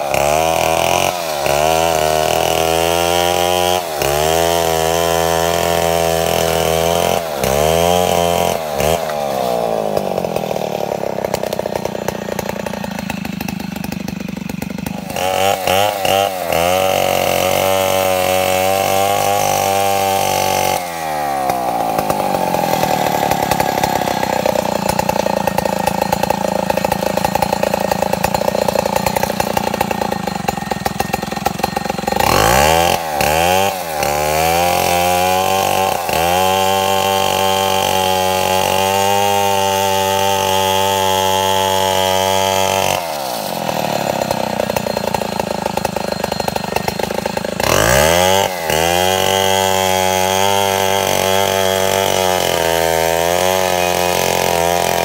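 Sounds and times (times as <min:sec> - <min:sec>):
chainsaw cutting a log: 0:00.0 - 0:55.0.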